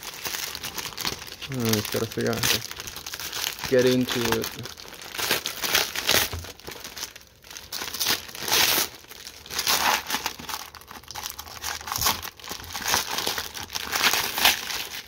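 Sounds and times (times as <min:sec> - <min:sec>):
packing paper tearing and crumpling: 0:00.0 - 0:15.0.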